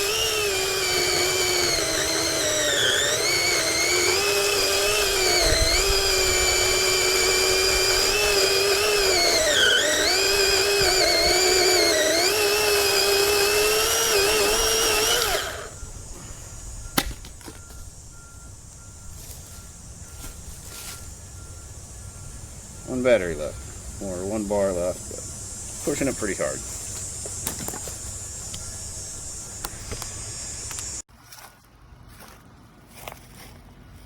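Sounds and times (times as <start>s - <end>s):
electric chainsaw whine: 0.0s - 31.0s.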